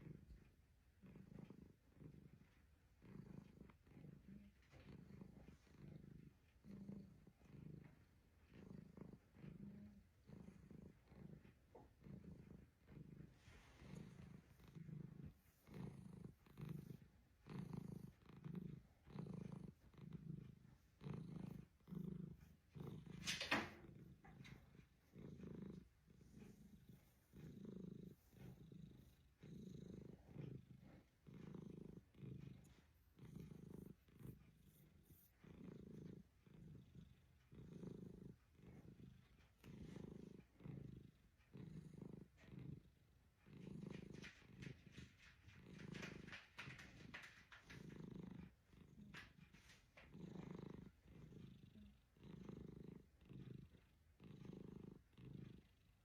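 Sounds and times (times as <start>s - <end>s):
cat purring softly: 0.0s - 56.0s.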